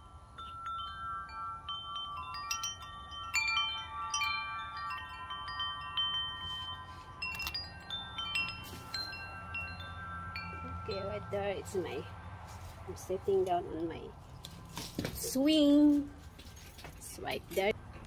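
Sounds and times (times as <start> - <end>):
steady low rumble: 0.0 - 14.8
wind chime ringing: 0.0 - 15.8.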